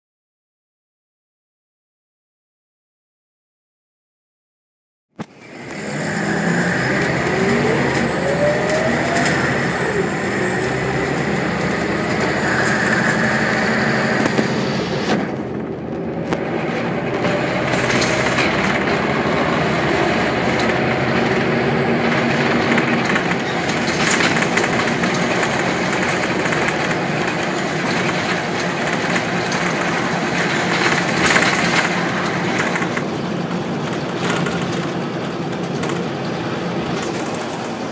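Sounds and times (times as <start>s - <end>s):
bus engine running: 5.2s - 37.9s
rising drivetrain whine: 5.2s - 37.9s.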